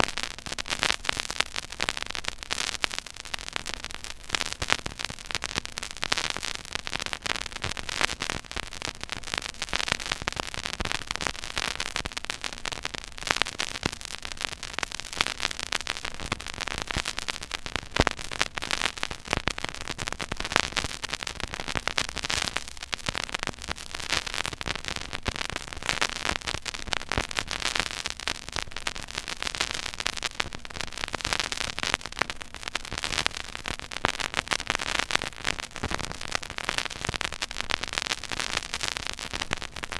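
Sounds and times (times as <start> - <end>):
vinyl crackles and pops: 0.0 - 39.9.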